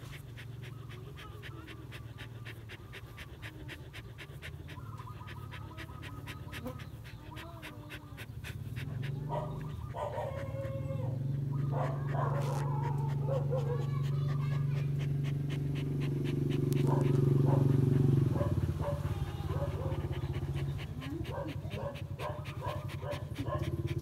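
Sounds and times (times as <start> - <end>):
dog panting: 0.0 - 24.0.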